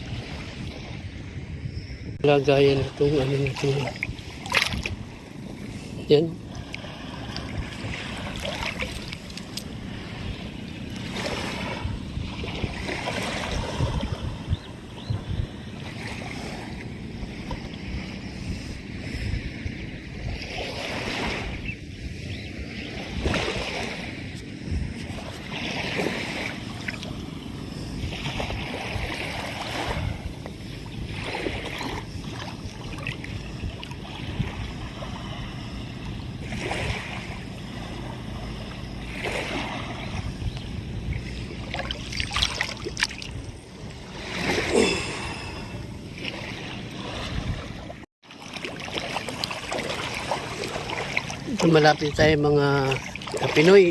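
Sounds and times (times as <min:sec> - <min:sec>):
wind on microphone: 0:00.0 - 0:48.1
water sloshing and splashing: 0:02.4 - 0:18.2, 0:20.0 - 0:21.6, 0:22.8 - 0:53.9.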